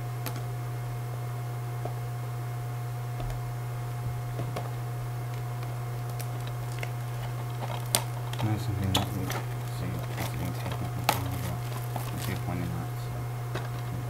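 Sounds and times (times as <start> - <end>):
high whine: 0.0 - 14.0
low electrical hum: 0.0 - 14.0.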